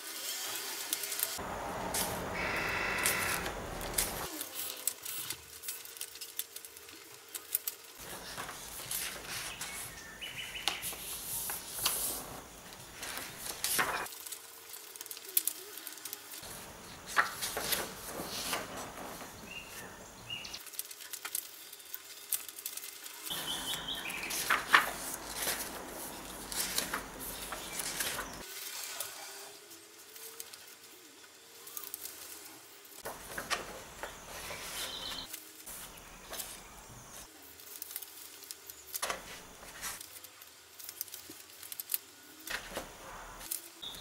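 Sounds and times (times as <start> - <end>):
book pages being flipped: 0.9 - 19.9, 20.6 - 28.7, 31.6 - 44.0.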